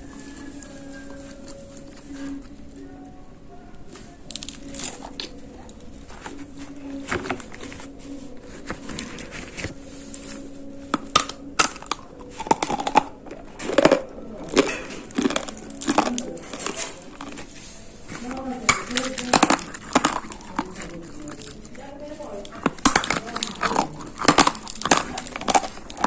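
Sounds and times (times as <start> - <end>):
clay being chewed: 0.0 - 26.0.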